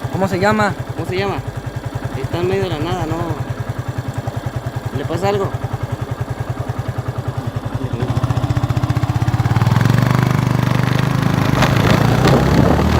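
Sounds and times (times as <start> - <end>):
vehicle engine pulsing: 0.0 - 12.9.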